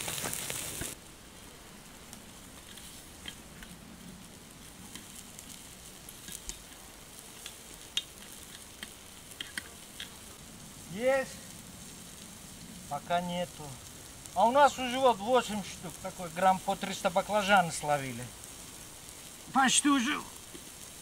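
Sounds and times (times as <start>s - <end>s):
charcoal clicks and crackles: 0.0s - 1.0s, 1.9s - 21.0s
food sizzling on a grill: 0.0s - 21.0s.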